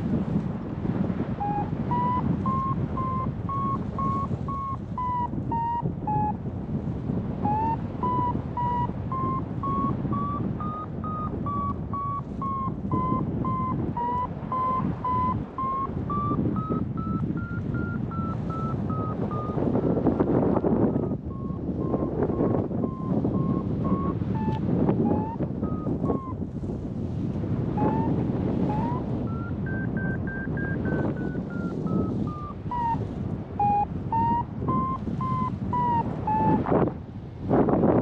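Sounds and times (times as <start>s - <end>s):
wind on microphone: 0.0s - 38.0s
variometer beeping: 1.4s - 6.4s, 7.4s - 26.4s, 27.7s - 36.7s.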